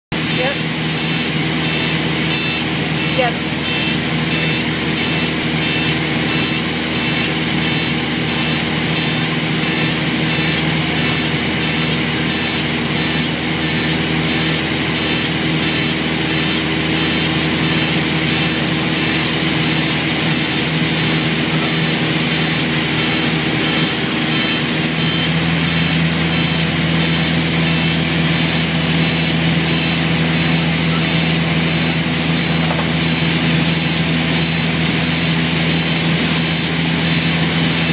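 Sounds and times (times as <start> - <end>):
aircraft engine running: 0.1 - 37.9
rapid high-pitched beep: 0.2 - 37.9.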